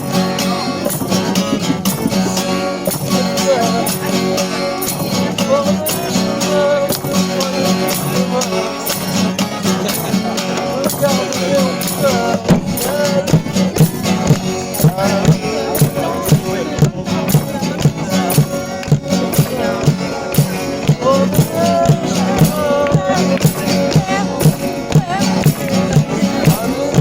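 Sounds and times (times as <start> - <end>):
strummed guitar: 0.0 - 27.0
tambourine-like percussion: 0.0 - 27.0.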